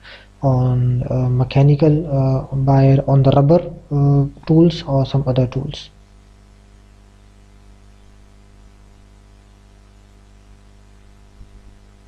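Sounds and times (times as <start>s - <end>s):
faint hiss: 0.0s - 12.0s
low electrical hum: 0.0s - 12.0s.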